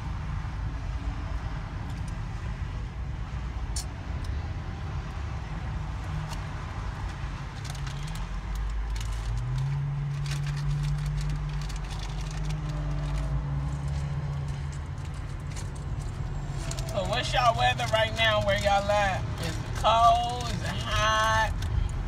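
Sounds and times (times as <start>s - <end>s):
car engine: 0.0s - 22.0s
road noise: 0.0s - 22.0s.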